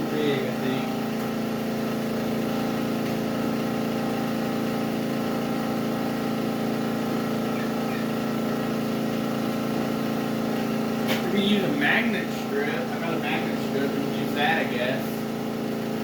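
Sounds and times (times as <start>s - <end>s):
generator engine humming: 0.0s - 16.0s.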